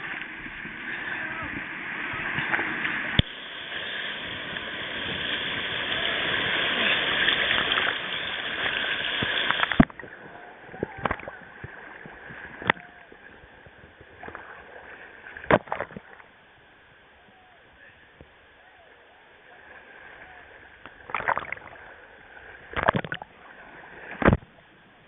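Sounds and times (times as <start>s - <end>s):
rushing whitewater: 0.0s - 24.8s.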